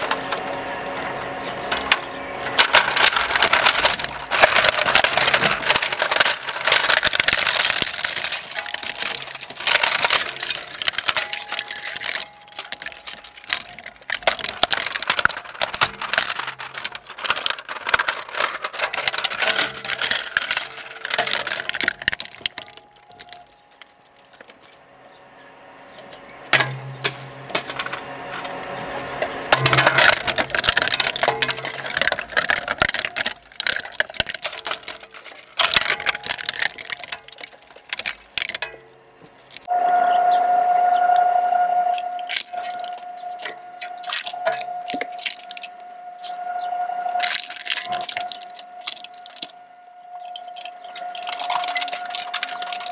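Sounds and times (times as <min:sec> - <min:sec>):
shredder crunching plastic: 0:00.0 - 0:24.8, 0:26.5 - 0:39.7, 0:42.3 - 0:46.3, 0:47.2 - 0:49.6, 0:50.2 - 0:52.9.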